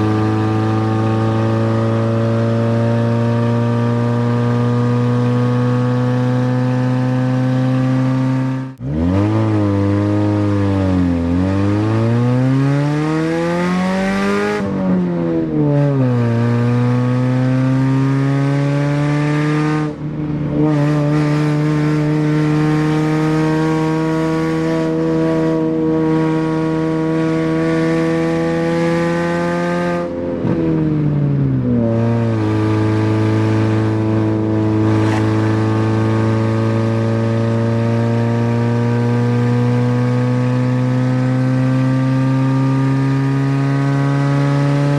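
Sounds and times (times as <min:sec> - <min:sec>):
car engine revving and droning: 0:00.0 - 0:44.9.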